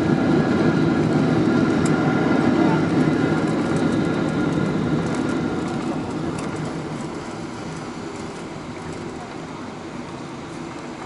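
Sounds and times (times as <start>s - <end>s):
jet engine and airframe rumble: 0.0s - 11.0s.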